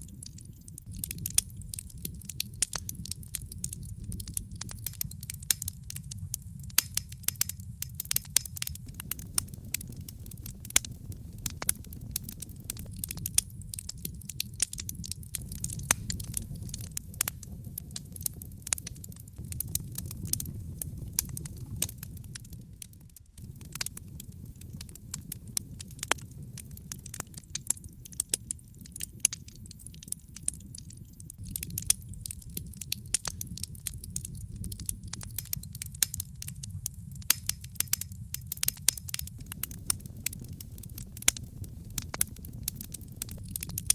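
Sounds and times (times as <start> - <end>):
wood fire crackling and popping: 0.0 - 43.9
low rush of burning: 0.1 - 43.9.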